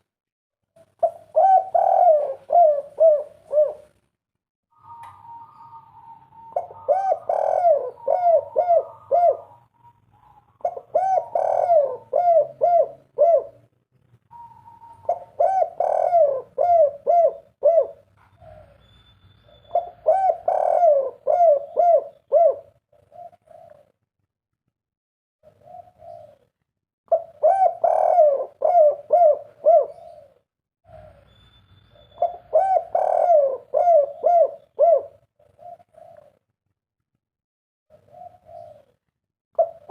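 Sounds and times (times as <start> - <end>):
dove cooing: 0.8 - 4.0, 4.7 - 18.9, 19.5 - 24.0, 25.4 - 31.3, 32.1 - 36.5, 37.9 - 39.0, 39.6 - 39.9.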